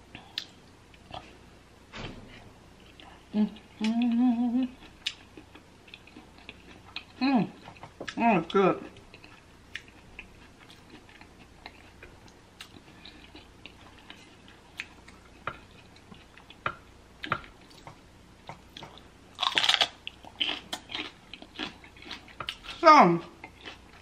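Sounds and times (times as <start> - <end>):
soft chewing: 0.0 - 1.6, 2.8 - 24.0.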